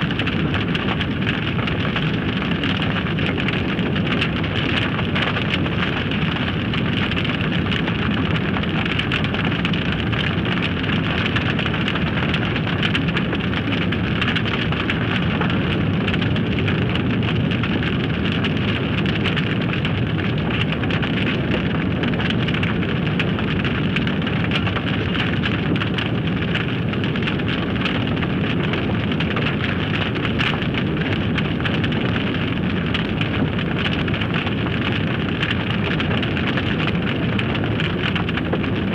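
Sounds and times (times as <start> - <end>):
fire rushing and crackling: 0.0 - 38.9.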